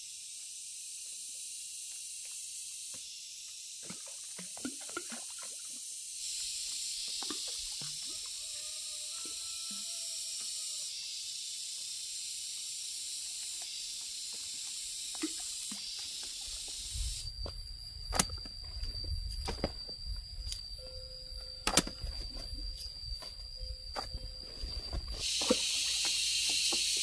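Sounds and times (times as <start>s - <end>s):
high-pitched hiss: 0.0s - 27.0s.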